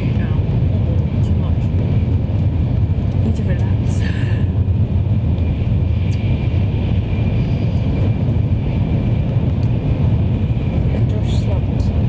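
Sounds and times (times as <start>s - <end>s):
train rumble inside cabin: 0.0s - 12.0s.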